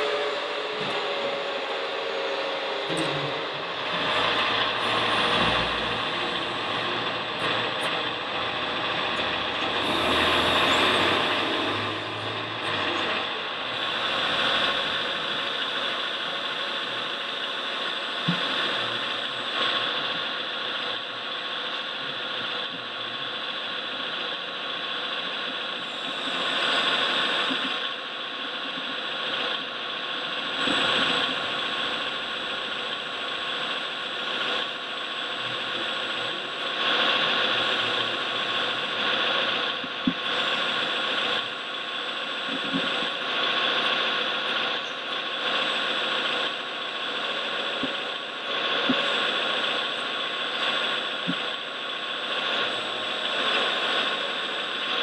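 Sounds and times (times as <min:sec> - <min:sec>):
hydraulic pump whine: 0:00.0 - 0:55.0.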